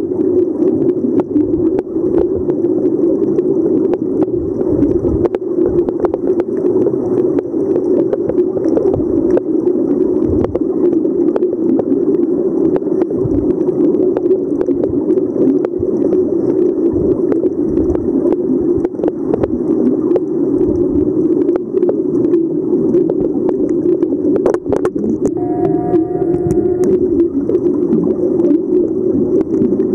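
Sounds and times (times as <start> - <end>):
steady low underwater hum: 0.0 - 29.9.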